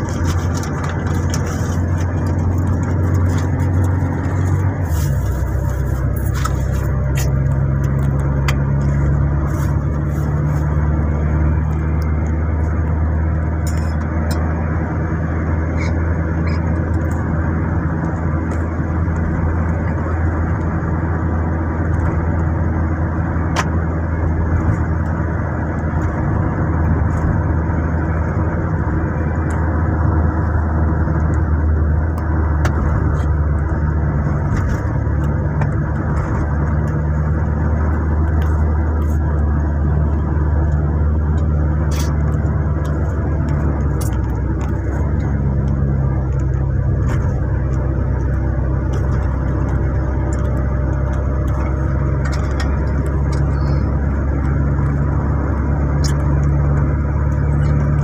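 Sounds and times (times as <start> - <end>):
car engine drone: 0.0 - 58.0
tyre road noise: 0.0 - 58.0.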